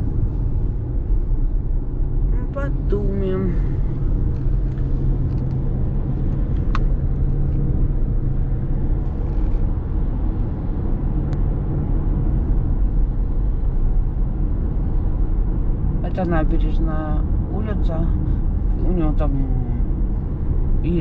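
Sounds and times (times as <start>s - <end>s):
low road and engine rumble: 0.0s - 21.0s.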